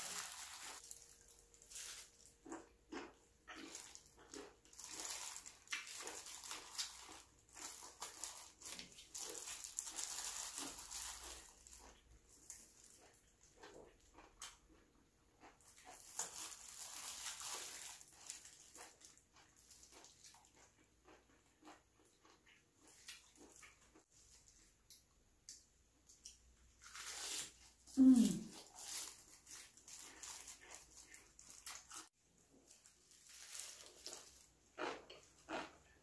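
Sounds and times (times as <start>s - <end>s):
person chewing and smacking food: 0.7s - 26.7s, 28.8s - 36.0s.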